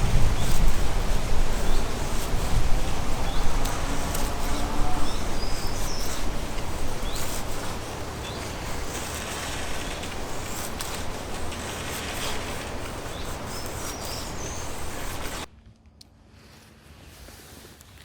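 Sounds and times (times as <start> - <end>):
small birds chirping: 0.0 - 15.5
wind rumble on microphone: 0.0 - 15.5
light clicks and rustles: 0.0 - 16.2.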